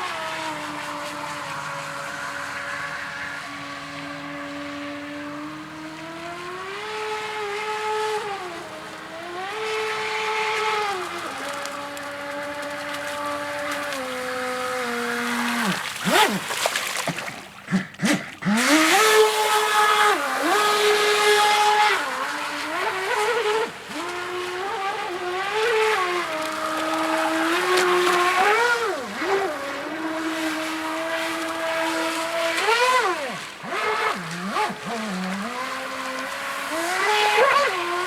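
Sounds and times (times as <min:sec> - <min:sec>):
model boat motor whining: 0:00.0 - 0:38.0.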